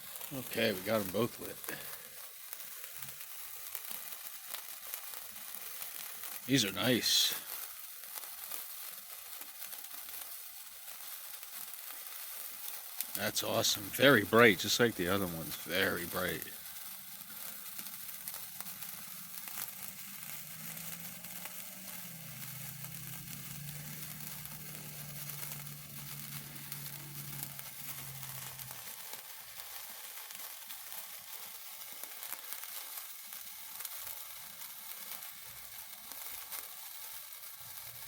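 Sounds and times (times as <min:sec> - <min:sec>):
sparklers fizzing: 0:00.0 - 0:38.0.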